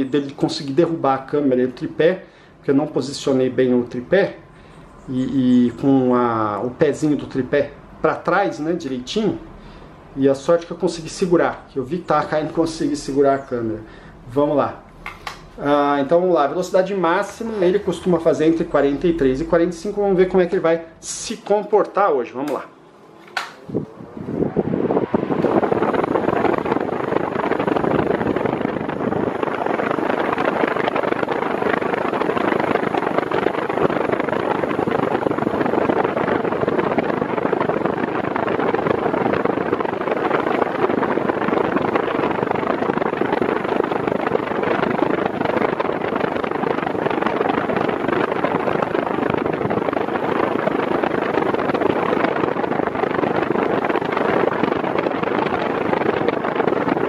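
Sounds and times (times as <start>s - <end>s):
fan rushing air: 0.0s - 57.0s.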